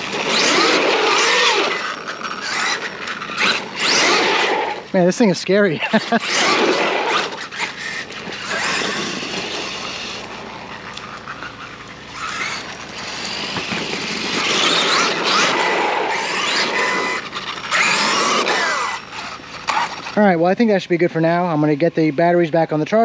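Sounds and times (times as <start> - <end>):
electric toy truck motor whining: 0.0 - 20.4.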